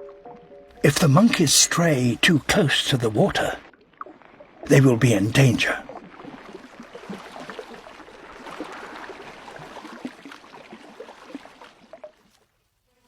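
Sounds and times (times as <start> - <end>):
water sloshing and gurgling: 0.0 - 12.6
small water splashes: 1.2 - 12.7.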